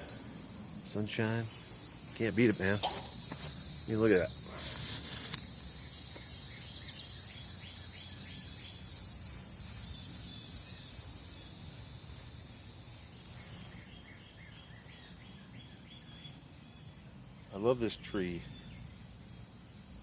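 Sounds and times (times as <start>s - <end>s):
insects buzzing: 0.0s - 20.0s.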